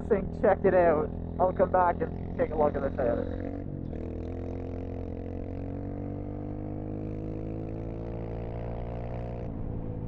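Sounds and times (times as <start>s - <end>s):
dirt bike engine running: 0.0s - 9.1s.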